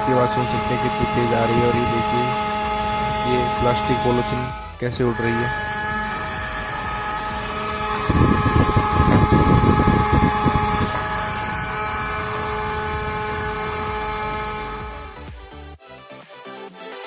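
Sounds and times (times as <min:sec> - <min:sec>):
buffeting rush of air: 0:00.0 - 0:15.3
small fan motor whining: 0:00.0 - 0:15.4.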